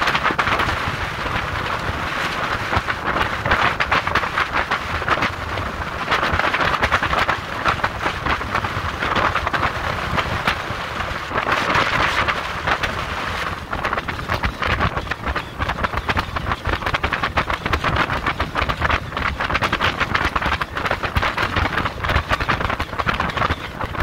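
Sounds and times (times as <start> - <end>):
boat hull slapping through water: 0.0 - 24.0
wind buffeting microphone: 0.0 - 24.0.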